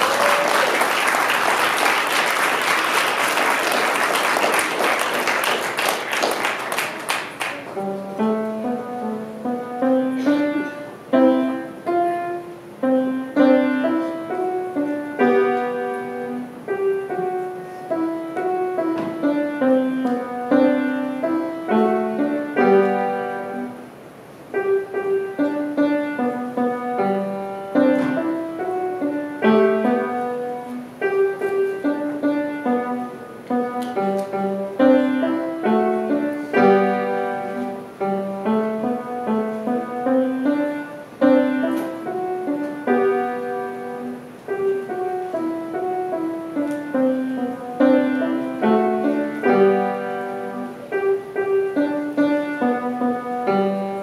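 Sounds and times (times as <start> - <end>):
solo piano playing: 0.0 - 6.1, 6.8 - 54.0.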